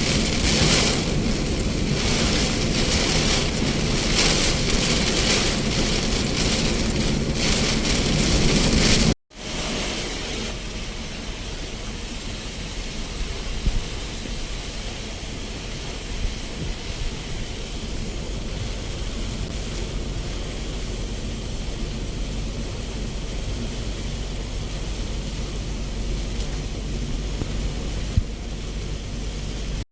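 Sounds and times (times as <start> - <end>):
low rumble: 0.0 - 9.6, 10.5 - 29.8
steady rain falling: 0.0 - 29.8.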